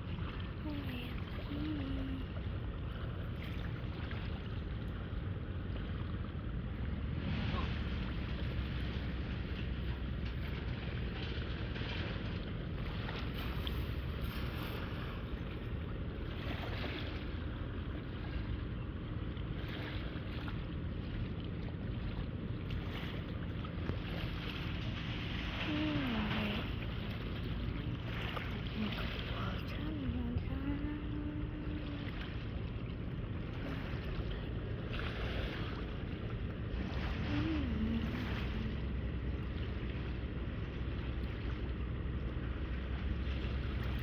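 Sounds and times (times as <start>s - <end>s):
faint low hum: 0.0s - 44.0s.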